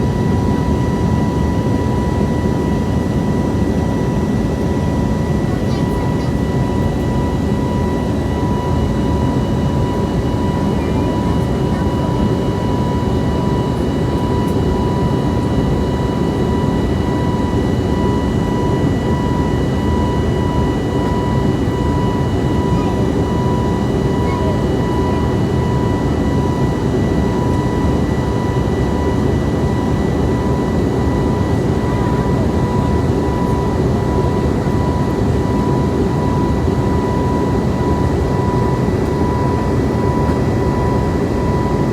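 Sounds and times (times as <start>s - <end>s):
jet engine and airflow rush: 0.0s - 41.9s.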